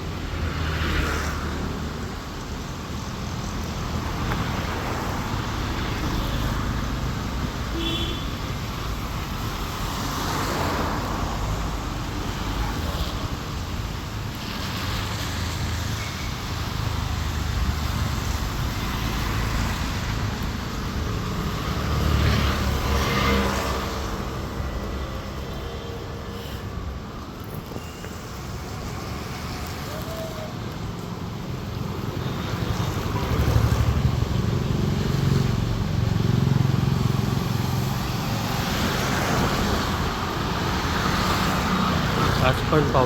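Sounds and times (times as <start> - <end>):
vehicles passing: 0.0 - 43.0.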